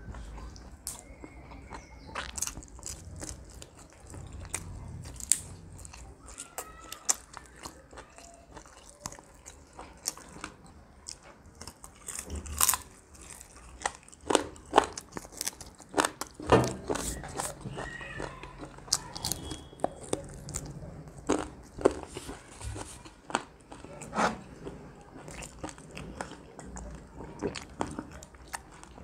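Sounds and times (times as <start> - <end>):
people chewing chicken: 0.0 - 29.0.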